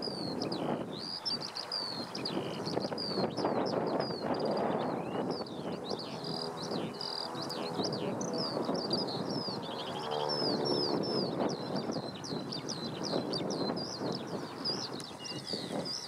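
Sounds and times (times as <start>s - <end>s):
distant propeller plane engine: 0.0s - 16.0s
small birds chirping: 0.0s - 16.0s.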